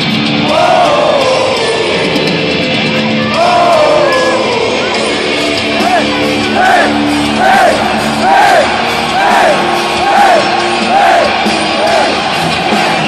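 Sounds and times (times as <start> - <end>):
crowd shouting in rhythm: 0.0 - 13.0
heavy metal band playing: 0.0 - 13.0.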